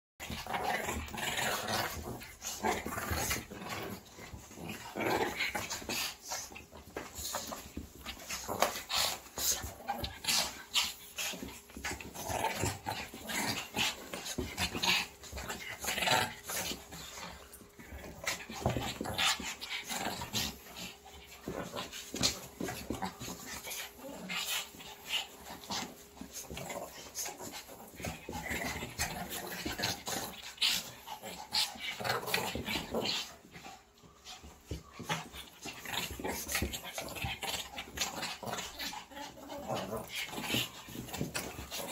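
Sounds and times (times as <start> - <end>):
dogs growling and whimpering: 0.2 - 41.9
paws scuffling on blanket: 0.3 - 41.9.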